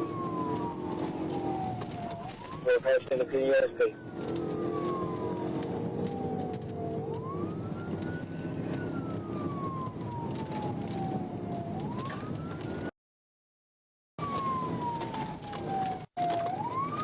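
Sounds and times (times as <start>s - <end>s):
engine and road noise: 0.0s - 12.9s, 14.2s - 17.0s
police siren wailing: 0.0s - 12.9s, 14.2s - 17.0s.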